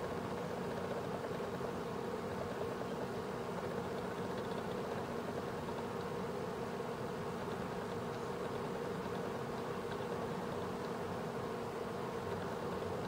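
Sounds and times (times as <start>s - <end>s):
ceiling fan air whir: 0.0s - 13.0s
fan motor humming: 0.0s - 13.0s.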